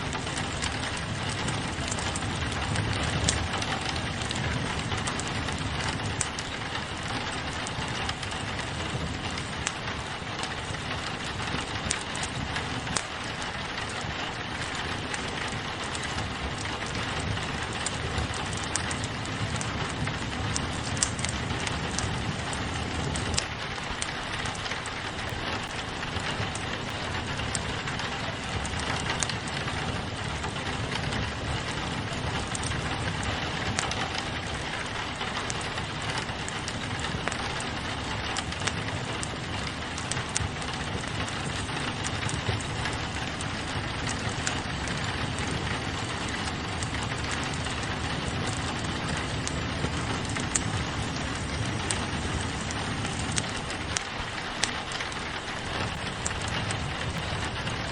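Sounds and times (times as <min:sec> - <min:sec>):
fireplace crackling: 0:00.0 - 0:57.9
rain on a window: 0:00.0 - 0:57.9.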